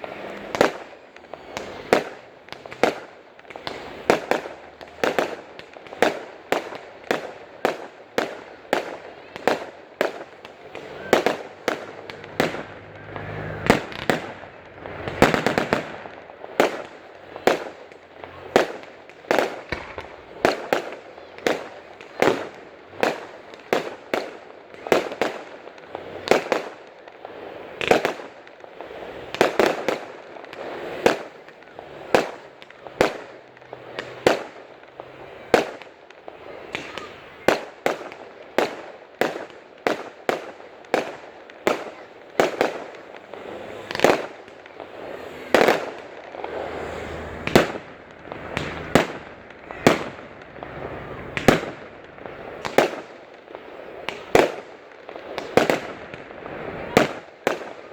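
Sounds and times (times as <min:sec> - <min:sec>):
fireworks banging: 0:00.0 - 0:57.9.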